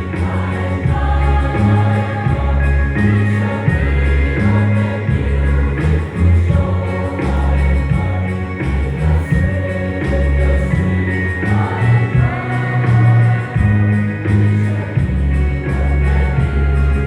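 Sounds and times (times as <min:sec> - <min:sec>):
group singing gospel: 0:00.0 - 0:17.0
instrumental accompaniment: 0:00.0 - 0:17.0.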